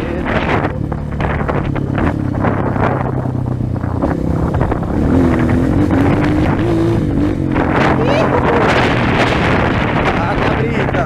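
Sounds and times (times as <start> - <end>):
motorcycle engine revving: 0.0 - 11.0
wind on microphone: 0.0 - 11.0.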